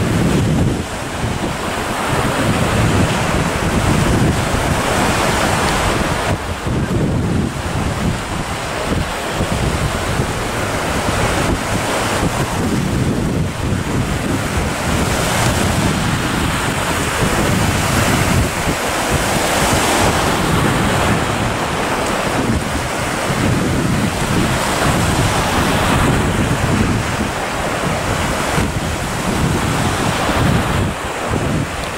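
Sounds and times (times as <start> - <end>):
sea waves breaking: 0.0 - 31.9
wind buffeting microphone: 0.0 - 31.9.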